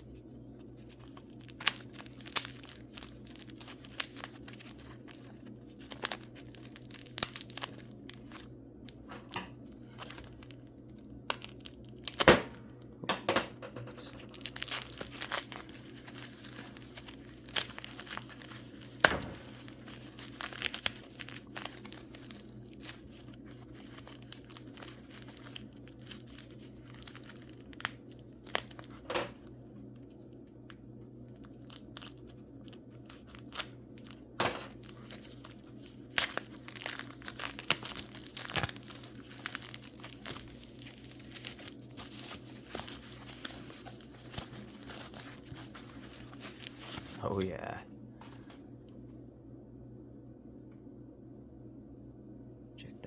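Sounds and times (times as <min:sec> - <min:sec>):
wrapping crinkled and torn: 0:00.0 - 0:12.3, 0:14.0 - 0:48.3
steady low hum: 0:00.0 - 0:53.0.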